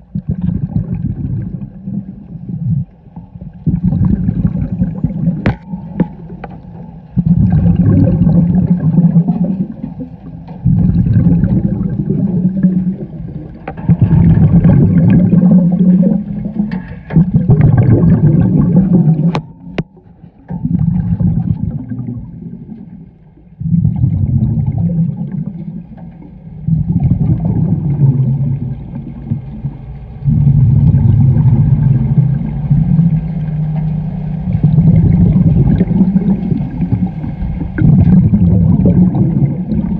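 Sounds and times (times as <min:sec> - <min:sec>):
bubbles rumbling: 0:00.0 - 0:39.9.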